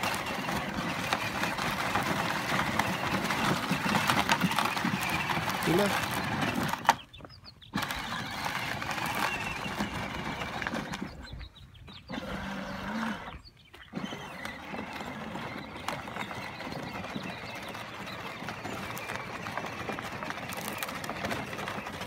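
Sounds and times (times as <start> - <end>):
plastic wheels crunching on dirt: 0.0 - 22.0
ride-on toy motor running: 0.0 - 22.0.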